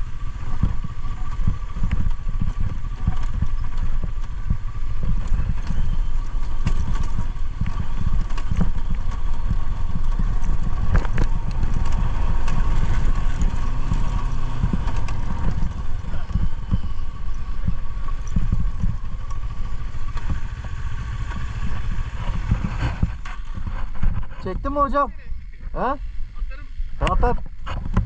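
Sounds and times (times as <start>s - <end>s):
knocks and rattles: 0.0s - 24.8s
motorcycle engine rumble: 0.0s - 28.0s.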